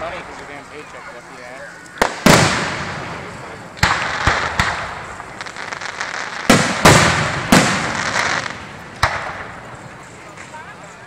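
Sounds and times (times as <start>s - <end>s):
fireworks booming with echo: 0.0s - 10.9s
light fireworks bangs: 0.0s - 11.0s.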